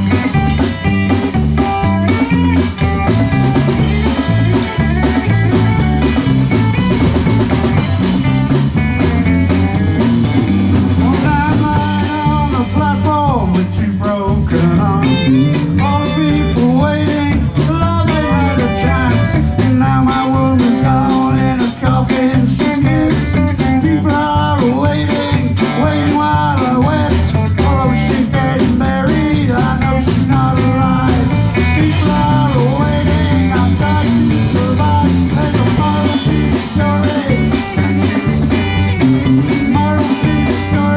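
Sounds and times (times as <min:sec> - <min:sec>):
bass guitar: 0:00.0 - 0:40.9
drum kit and percussion: 0:00.0 - 0:40.9
electric lead guitar: 0:00.0 - 0:40.9.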